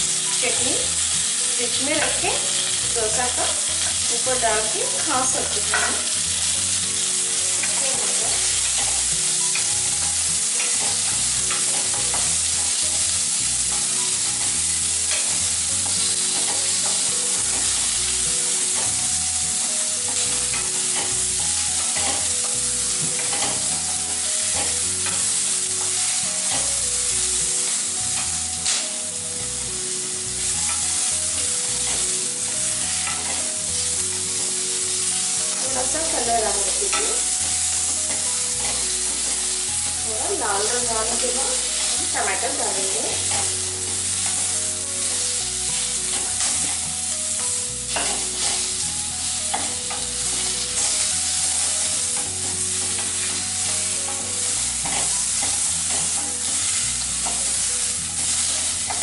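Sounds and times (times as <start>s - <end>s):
onions sizzling in hot oil: 0.0s - 59.0s
spatula scraping pan: 0.1s - 59.0s.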